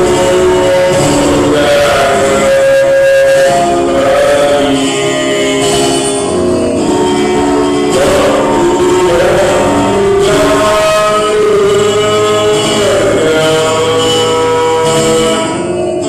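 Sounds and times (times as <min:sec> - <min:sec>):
pop rock song with singing: 0:00.0 - 0:16.0.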